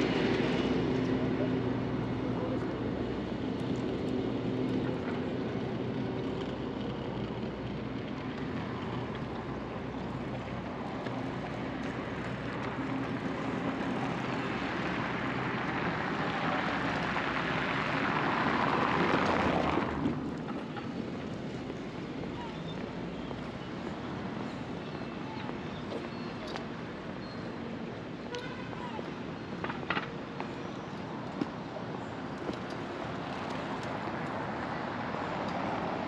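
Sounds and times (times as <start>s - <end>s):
traffic engine hum: 0.0s - 36.0s
vehicle noise: 0.0s - 36.0s.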